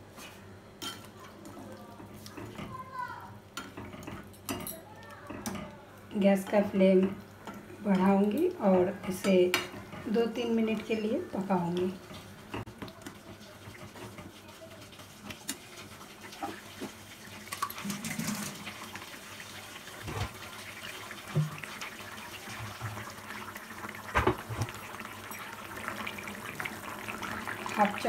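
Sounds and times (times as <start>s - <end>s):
curry simmering with pops: 0.9s - 28.0s.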